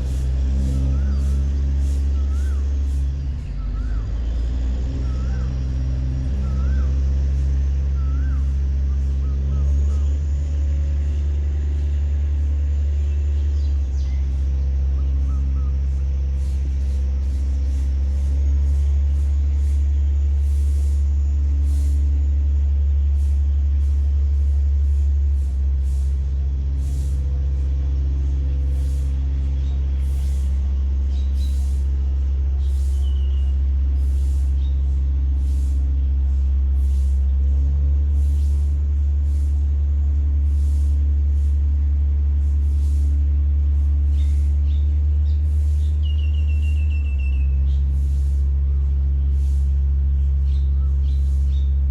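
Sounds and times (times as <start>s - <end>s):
boat diesel engine droning: 0.0s - 51.9s.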